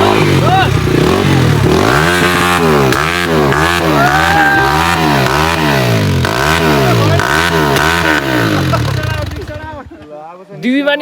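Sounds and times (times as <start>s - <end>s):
dirt bike engine revving: 0.0s - 9.9s.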